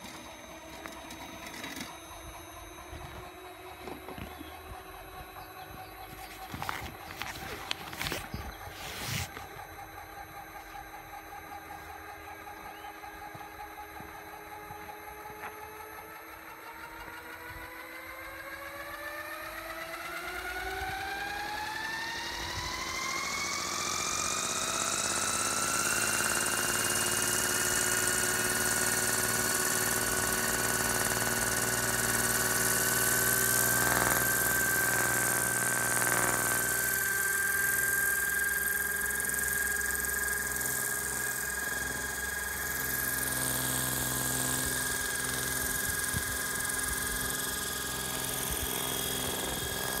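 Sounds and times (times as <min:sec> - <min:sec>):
electric helicopter motor whine: 0:00.0 - 0:50.0.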